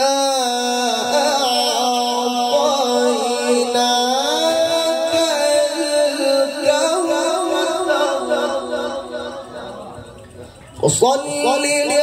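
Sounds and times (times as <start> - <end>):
man reciting melodically over pa: 0.0 - 12.0.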